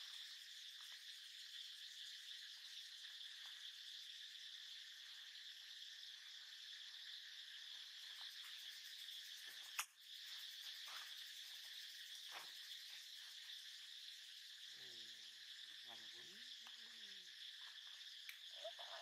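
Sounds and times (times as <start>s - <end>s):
forest insects chorus: 0.0s - 19.0s.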